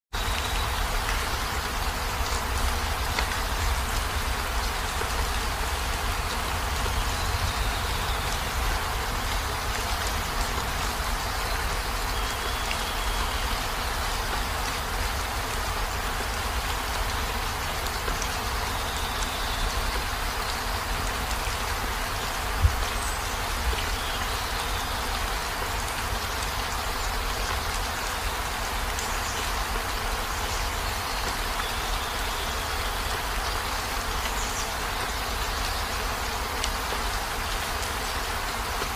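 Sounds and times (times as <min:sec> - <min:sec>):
heavy rain hissing: 0:00.2 - 0:38.9.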